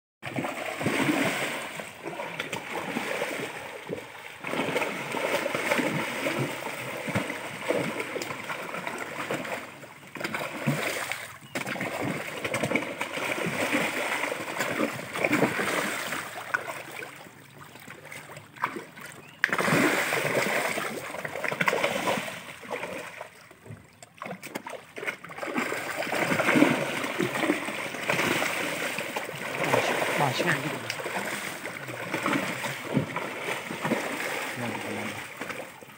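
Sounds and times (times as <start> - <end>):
fish thrashing and splashing: 0.2 - 35.9.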